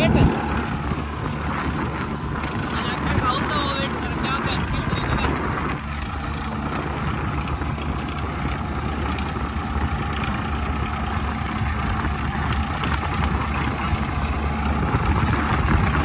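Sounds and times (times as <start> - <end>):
tractor engines droning: 0.0 - 16.0.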